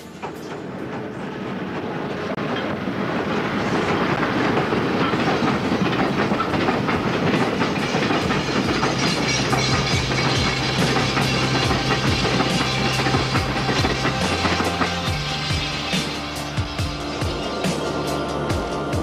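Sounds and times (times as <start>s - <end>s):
train wheels clattering on track: 0.0s - 19.0s.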